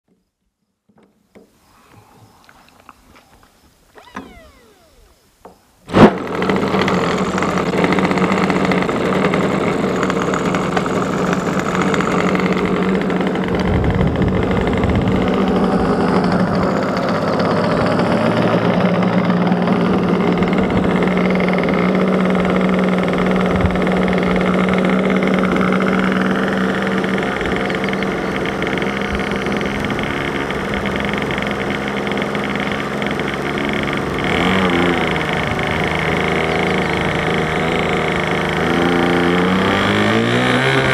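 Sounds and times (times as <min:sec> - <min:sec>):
model plane engine running: 0:04.0 - 0:40.9.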